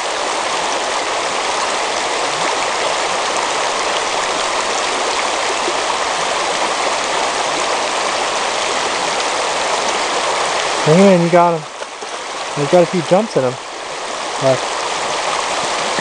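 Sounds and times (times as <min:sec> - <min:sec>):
river water rushing over gravel: 0:00.0 - 0:16.0.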